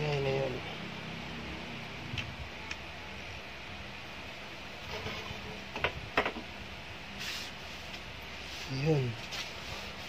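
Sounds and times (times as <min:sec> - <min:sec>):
low background noise: 0:00.0 - 0:10.0.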